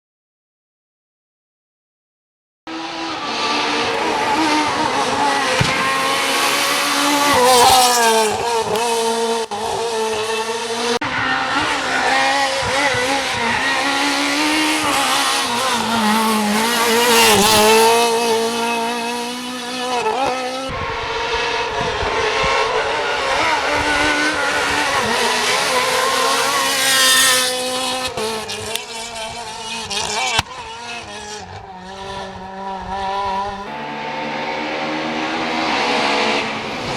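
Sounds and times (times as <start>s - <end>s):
rally car engines revving: 2.7s - 36.9s.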